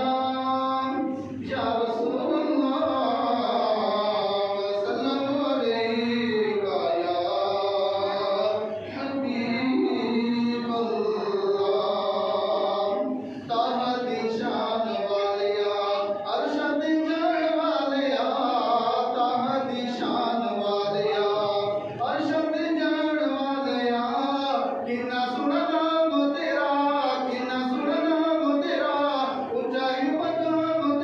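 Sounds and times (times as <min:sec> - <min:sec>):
man chanting into a microphone: 0:00.0 - 0:31.0.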